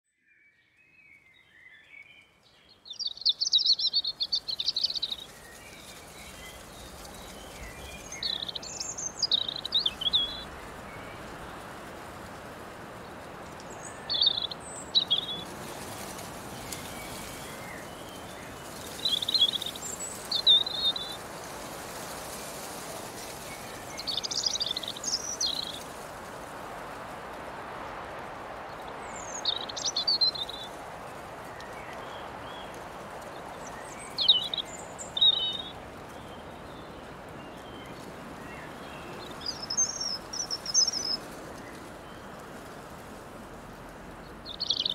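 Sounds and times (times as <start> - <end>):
songbird singing: 0.0 - 27.3, 28.5 - 44.9
breeze hiss: 3.1 - 44.9.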